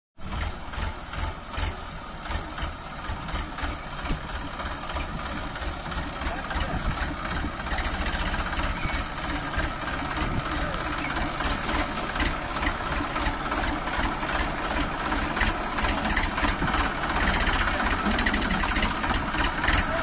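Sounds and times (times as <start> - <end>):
tractor diesel engine chugging: 0.2 - 20.0.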